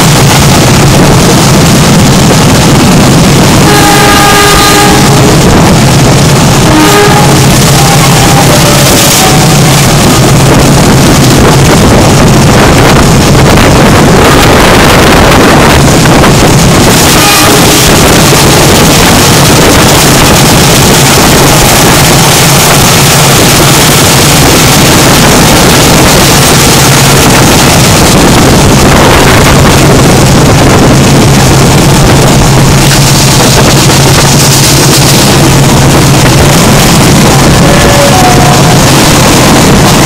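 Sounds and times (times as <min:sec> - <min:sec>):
train running rumble: 0:00.0 - 0:40.0
wind buffeting the microphone: 0:00.0 - 0:40.0.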